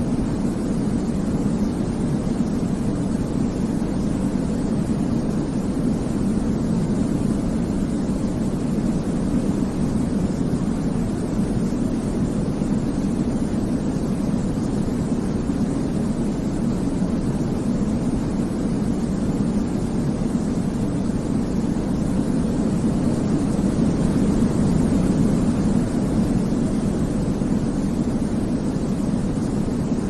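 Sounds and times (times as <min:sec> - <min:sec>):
deep white noise rumble: 0:00.0 - 0:30.0.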